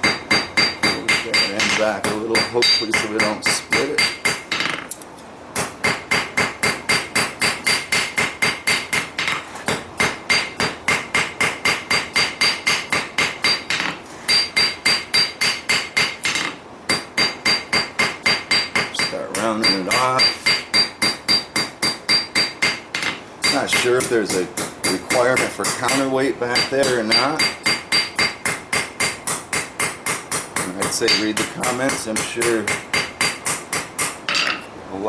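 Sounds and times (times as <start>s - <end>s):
hammer striking steel on anvil: 0.0s - 4.8s, 5.6s - 34.6s.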